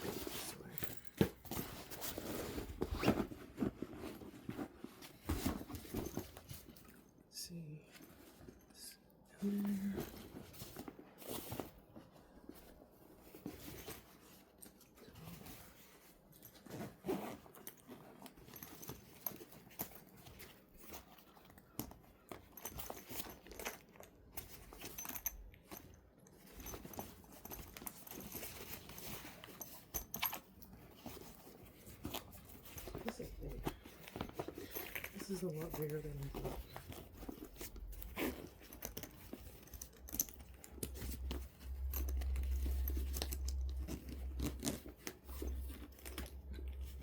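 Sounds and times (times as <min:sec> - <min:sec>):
rustling of fabric and mesh: 0:00.0 - 0:47.0.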